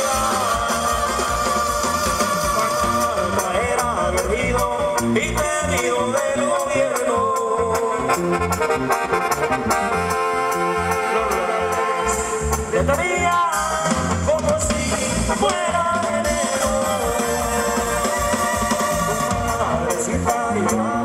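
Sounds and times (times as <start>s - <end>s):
live dance band through pa: 0.0s - 21.0s.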